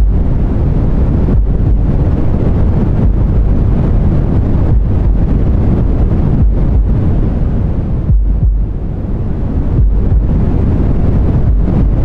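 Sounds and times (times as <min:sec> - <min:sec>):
deep white noise hiss: 0:00.0 - 0:12.0.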